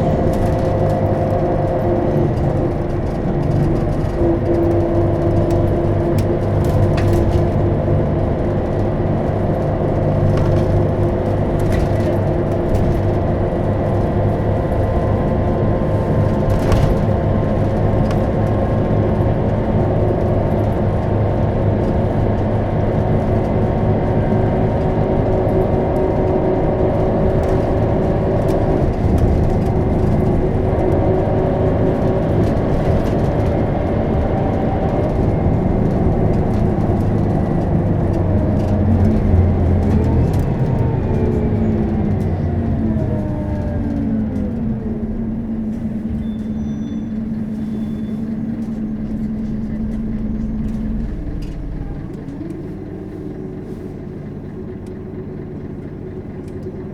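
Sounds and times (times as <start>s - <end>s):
bus diesel engine running: 0.0s - 56.9s.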